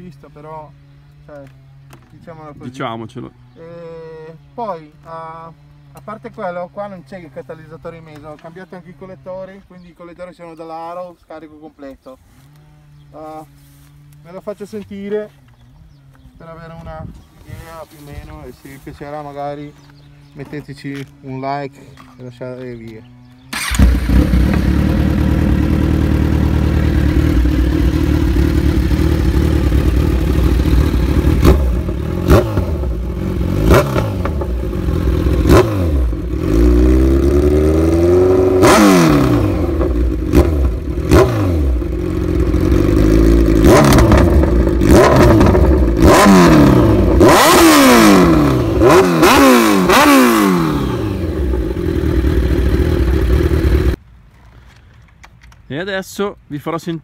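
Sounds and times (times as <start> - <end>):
motorcycle engine revving: 0.0 - 9.6, 12.3 - 54.0.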